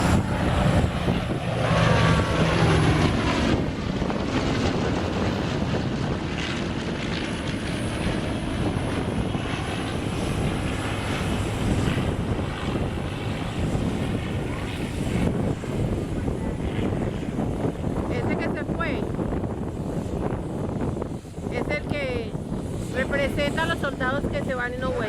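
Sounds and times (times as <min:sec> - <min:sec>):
broad rushing noise: 0:00.0 - 0:25.0
propeller aircraft flying past: 0:00.0 - 0:25.0.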